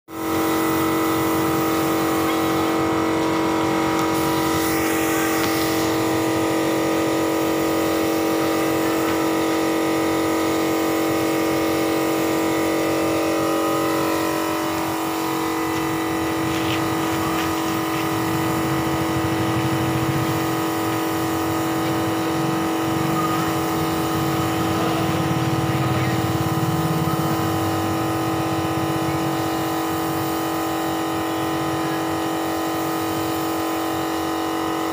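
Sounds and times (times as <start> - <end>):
air compressor humming: 0.1 - 34.9
paint spray gun hissing: 0.1 - 34.9.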